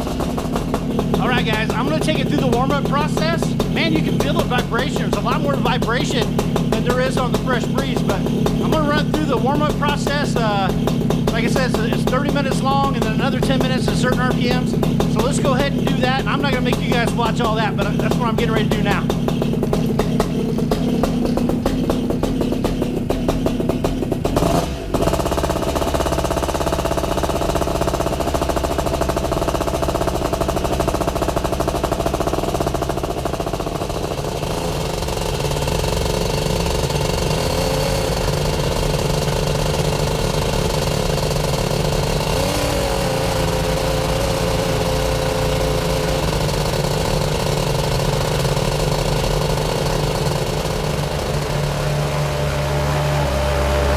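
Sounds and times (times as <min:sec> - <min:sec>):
paramotor engine and propeller running: 0:00.0 - 0:53.9.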